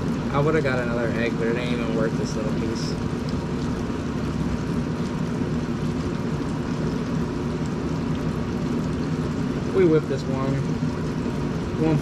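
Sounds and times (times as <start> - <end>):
hot oil bubbling in deep fryer: 0.0 - 12.0
low electric hum: 0.0 - 12.0.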